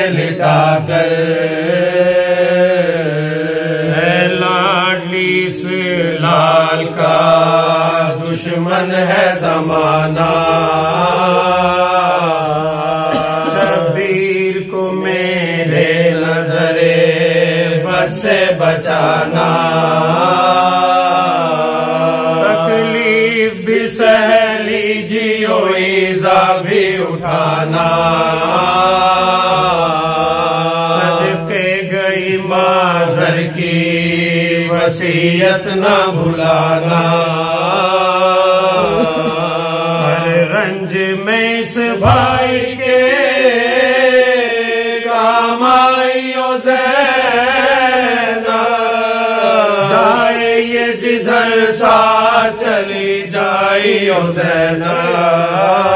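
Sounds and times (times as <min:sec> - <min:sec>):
men chanting: 0:00.0 - 0:55.9.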